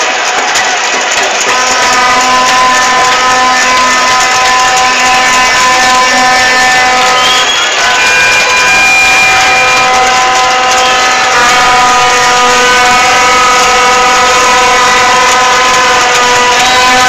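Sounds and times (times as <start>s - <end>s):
crowd noise: 0.0s - 17.0s
horns droning: 0.9s - 17.0s.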